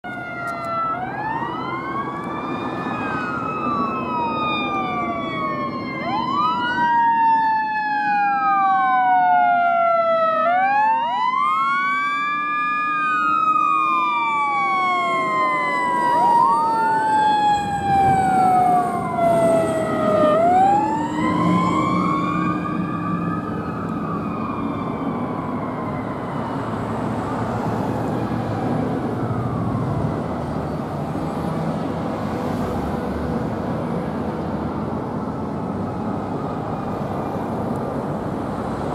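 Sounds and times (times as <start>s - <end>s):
fire truck engine and tyres: 0.0s - 38.9s
wailing siren: 0.0s - 38.9s.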